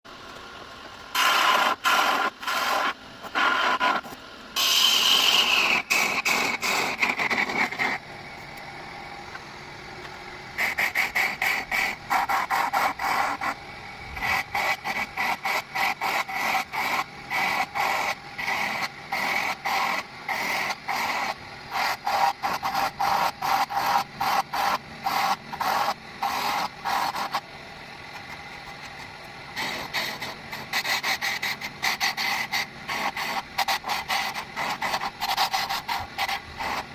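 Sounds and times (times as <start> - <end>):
steady whine: 0.1 - 36.9.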